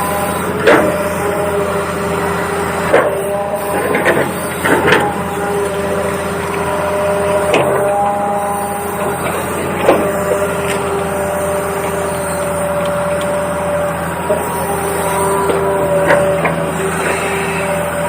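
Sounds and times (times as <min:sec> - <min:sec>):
electric gear motors whining: 0:00.0 - 0:18.0.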